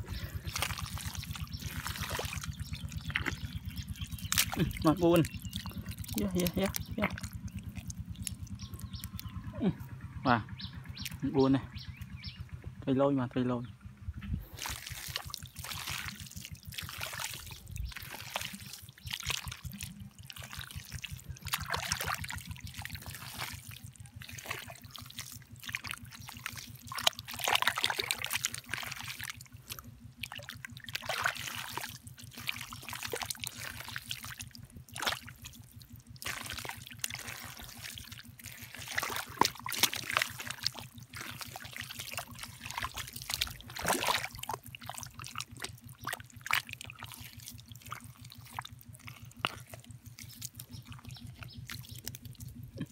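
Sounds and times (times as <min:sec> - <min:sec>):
hands squelching through wet mud: 0:00.0 - 0:12.4, 0:14.4 - 0:52.9
low hum: 0:00.0 - 0:52.9.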